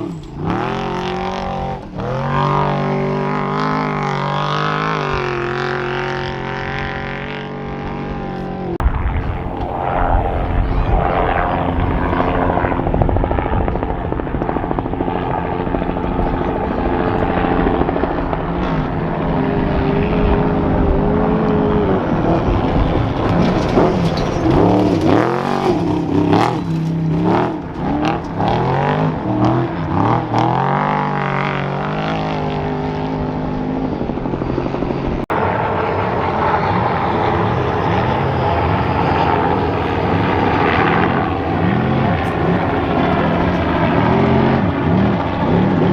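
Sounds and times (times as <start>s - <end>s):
race truck engines revving past: 0.0s - 45.9s.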